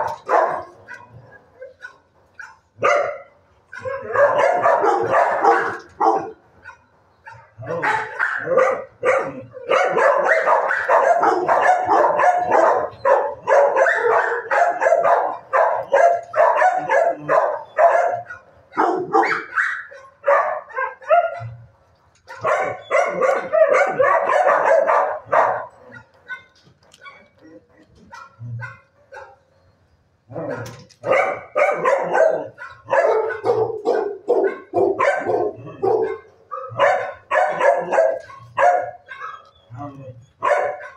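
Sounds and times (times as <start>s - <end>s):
dogs barking: 0.0s - 29.5s, 30.3s - 40.9s.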